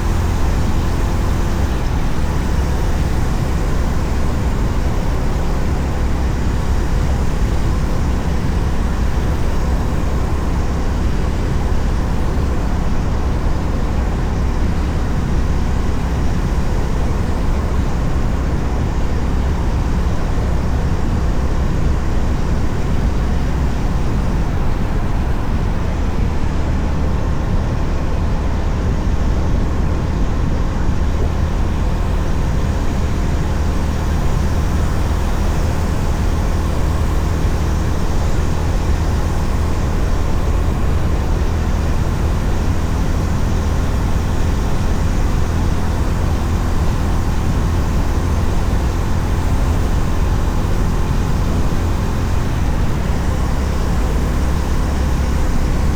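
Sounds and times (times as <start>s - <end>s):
wind and road rush: 0.0s - 55.9s.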